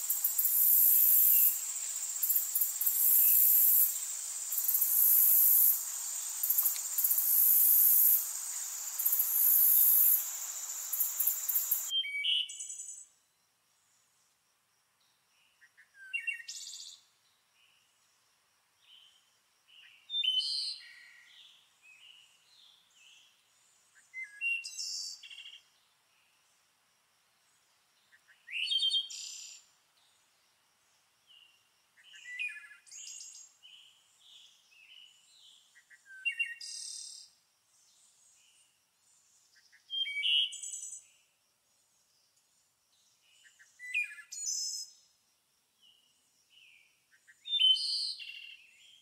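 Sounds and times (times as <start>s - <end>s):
songbird singing: 0.0s - 14.0s, 15.0s - 18.2s, 18.8s - 26.5s, 27.5s - 30.4s, 31.2s - 45.2s, 45.8s - 49.0s
faint chirps of other birds: 0.0s - 14.4s, 15.0s - 18.2s, 18.8s - 26.6s, 27.4s - 49.0s.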